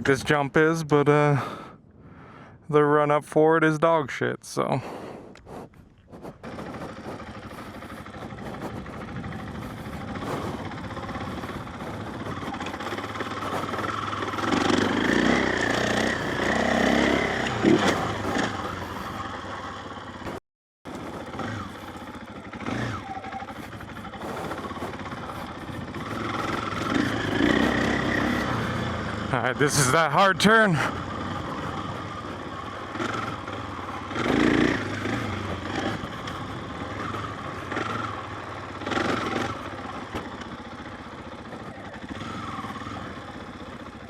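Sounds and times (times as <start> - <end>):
dirt bike engine under throttle: 4.6 - 44.0.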